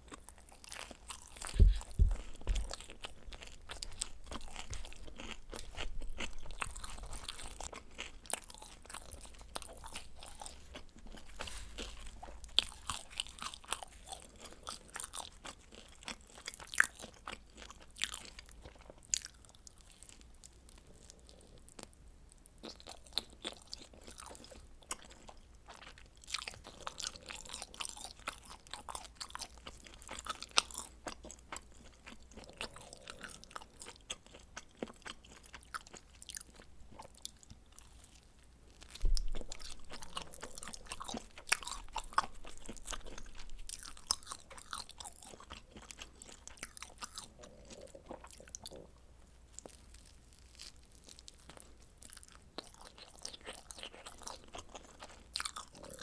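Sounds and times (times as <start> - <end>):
crunching and chewing pizza: 0.0 - 56.0.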